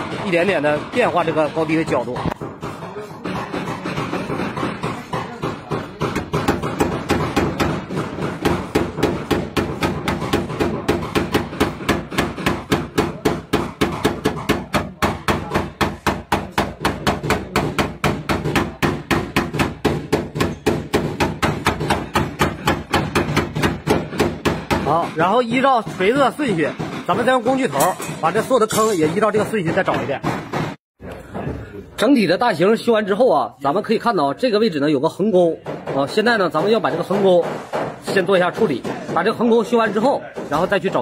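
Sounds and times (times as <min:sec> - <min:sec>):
hammer tapping sheet metal: 0:00.0 - 0:30.8, 0:35.6 - 0:41.0.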